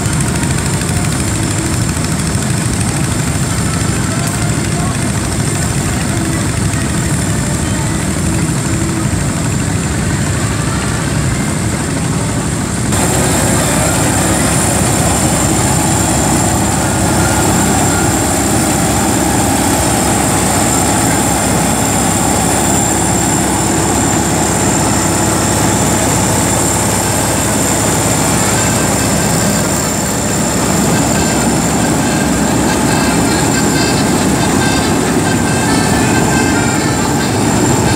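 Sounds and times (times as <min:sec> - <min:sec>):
farm machinery engine running: 0:00.0 - 0:37.9
thin high whine: 0:00.1 - 0:37.9.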